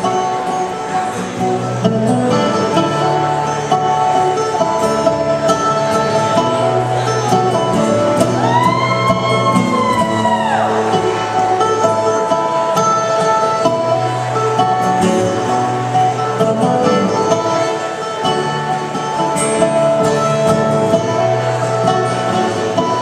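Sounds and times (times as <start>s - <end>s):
acoustic guitar strumming: 0.0s - 23.0s
mandolin lead: 0.0s - 23.0s.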